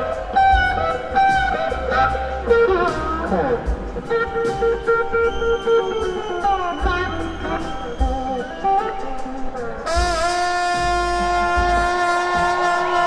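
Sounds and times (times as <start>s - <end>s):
drums and bass: 0.0s - 13.0s
electric slide guitar: 0.0s - 13.0s.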